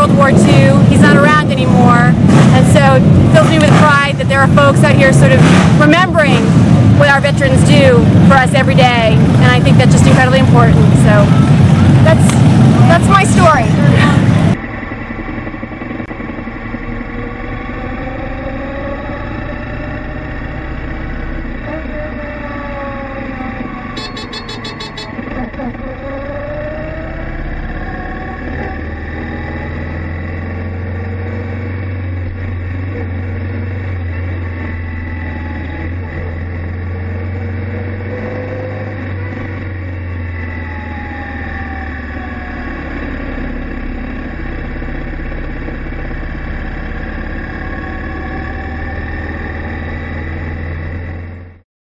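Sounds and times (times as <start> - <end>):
motorcycles engine rumble: 0.0 - 51.6.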